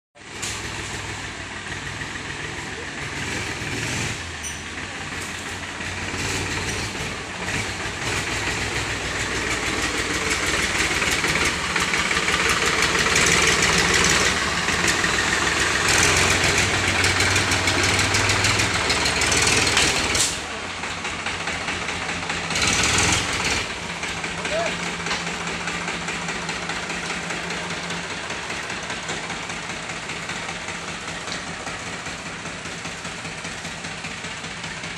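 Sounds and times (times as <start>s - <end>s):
tractor diesel engine revving: 0.2s - 34.9s.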